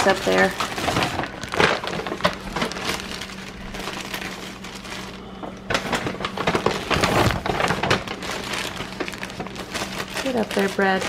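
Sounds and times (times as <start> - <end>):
low steady hum: 0.0 - 11.0
plastic bags crinkling: 0.0 - 11.0.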